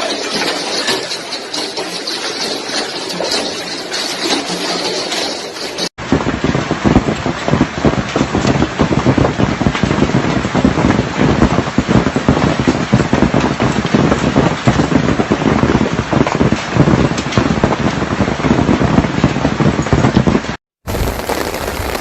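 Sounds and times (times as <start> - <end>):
hailstones clattering: 0.0 - 22.0.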